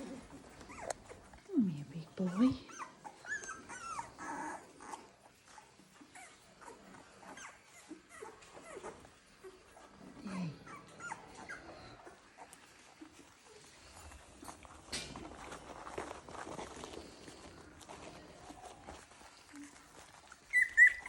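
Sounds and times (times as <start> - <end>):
puppy whimpering: 0.0 - 13.8, 16.6 - 21.0
puppy whining: 0.0 - 21.0.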